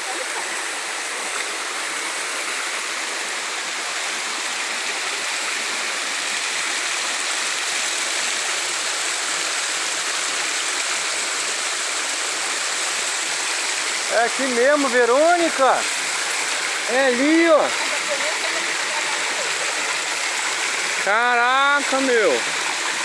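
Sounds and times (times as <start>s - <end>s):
stream and waterfall rushing: 0.0s - 23.0s.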